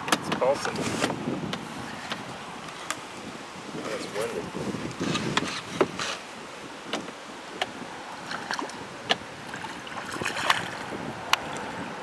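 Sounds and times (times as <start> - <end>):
water lapping around a boat: 0.0 - 12.0
wind: 0.0 - 12.0.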